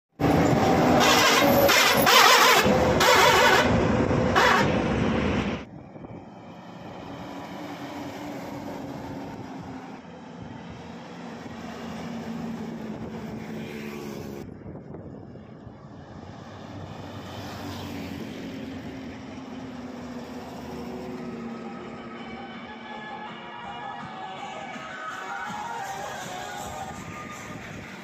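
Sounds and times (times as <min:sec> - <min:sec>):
diesel trucks driving past: 0:00.2 - 0:28.0
loud gusting rushing noise: 0:00.2 - 0:28.0.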